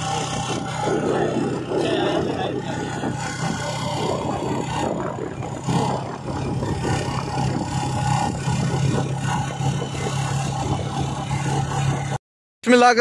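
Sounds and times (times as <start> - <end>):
vehicle engine cruising: 0.0 - 12.2
wind and road noise: 0.0 - 12.2.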